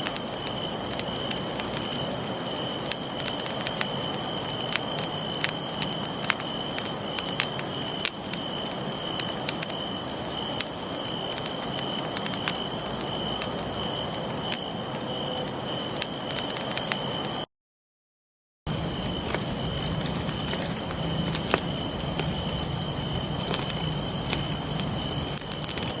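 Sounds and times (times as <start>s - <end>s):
campfire crackling and popping: 0.0s - 17.5s, 18.7s - 26.0s
crickets trilling: 0.0s - 17.5s, 18.7s - 26.0s.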